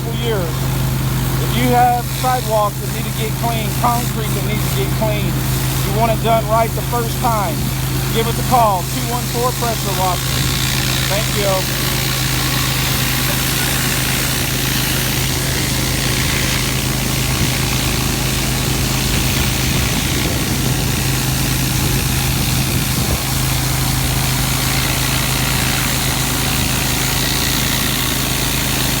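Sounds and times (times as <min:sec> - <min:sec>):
high-pressure water hissing on concrete: 0:00.0 - 0:29.0
pressure washer engine hum: 0:00.0 - 0:29.0.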